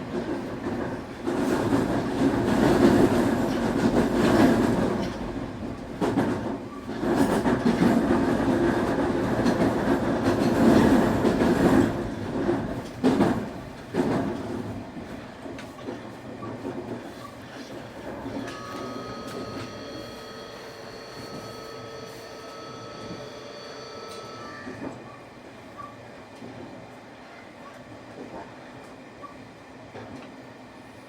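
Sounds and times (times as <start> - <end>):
clickety-clack over rail joints: 0.0 - 19.8, 24.1 - 30.5
train wheels rumbling on rail: 0.0 - 31.0.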